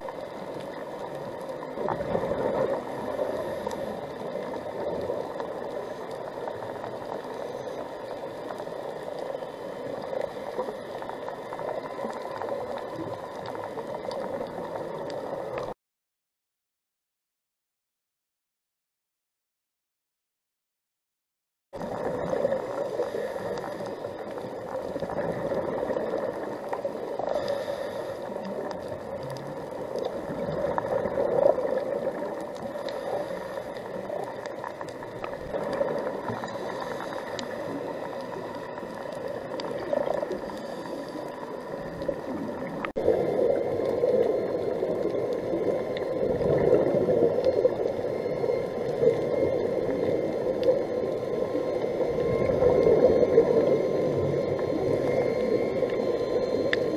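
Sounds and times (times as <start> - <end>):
bubbling: 0.0 - 15.8, 21.8 - 56.9
underwater water rush: 0.0 - 15.8, 21.8 - 56.9.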